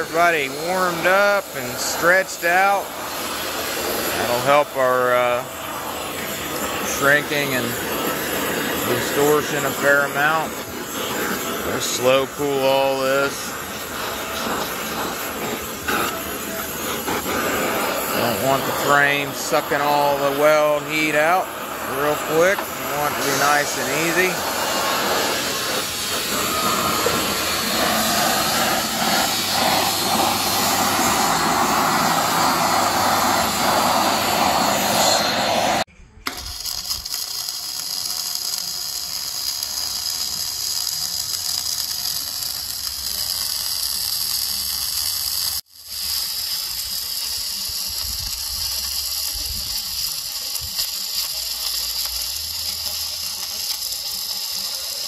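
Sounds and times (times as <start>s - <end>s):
arc welding crackle and hiss: 0.0s - 55.0s
gas torch burning: 0.0s - 55.0s.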